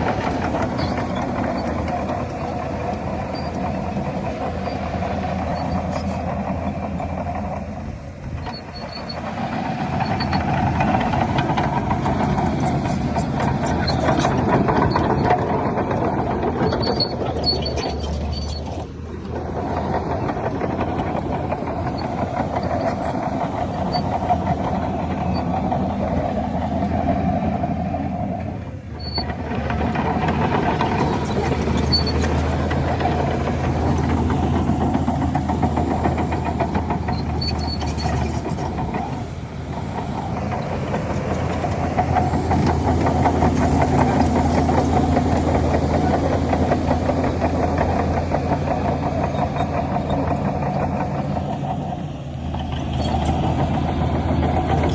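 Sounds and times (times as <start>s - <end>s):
bulldozer diesel engine droning: 0.0s - 54.9s.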